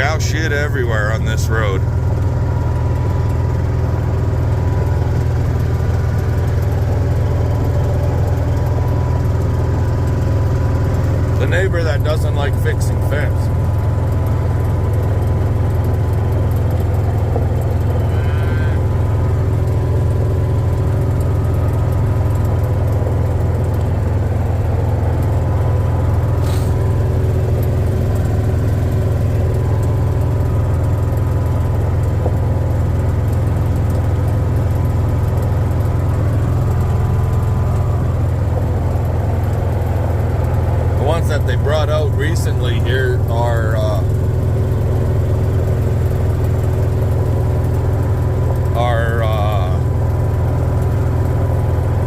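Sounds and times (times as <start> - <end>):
engine and road hum: 0.0 - 52.0.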